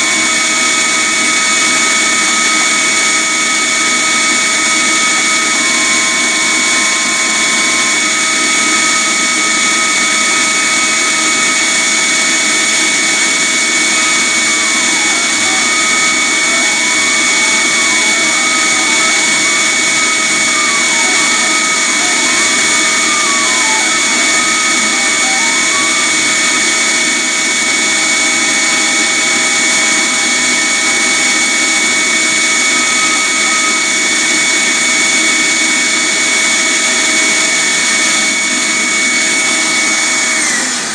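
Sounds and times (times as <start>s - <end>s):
stepper motors singing tones: 0.0s - 40.8s
vacuum whining: 0.0s - 40.9s.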